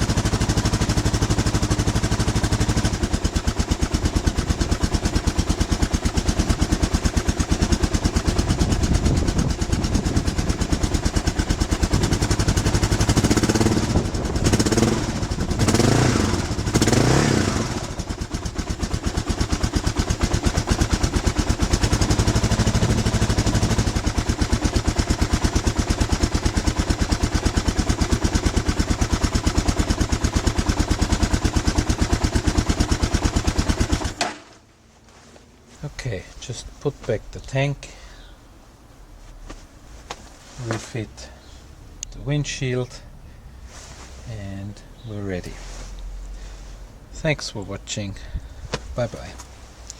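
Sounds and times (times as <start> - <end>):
motorcycle engine idling and revving: 0.0 - 34.7, 35.8 - 49.9.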